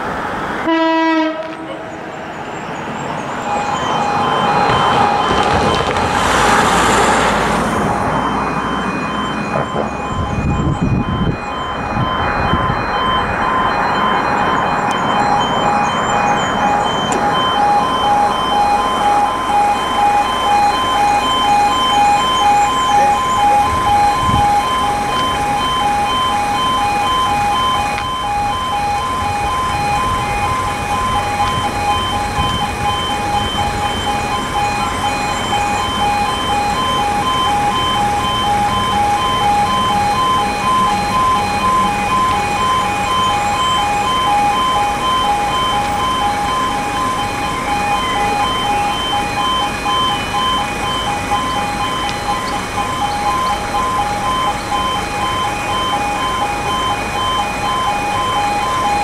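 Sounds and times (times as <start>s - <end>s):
level crossing warning alarm: 0.0s - 59.0s.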